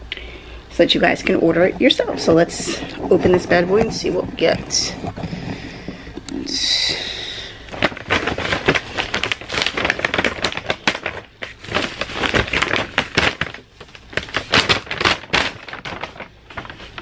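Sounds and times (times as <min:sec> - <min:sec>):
paper bag crinkling: 0:01.0 - 0:17.0.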